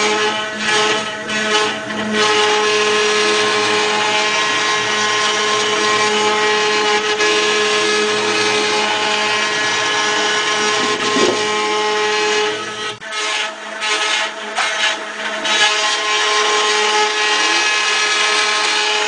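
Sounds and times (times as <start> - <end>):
metal cutting noise: 0.0 - 19.0
milling machine spindle whining: 0.0 - 19.0.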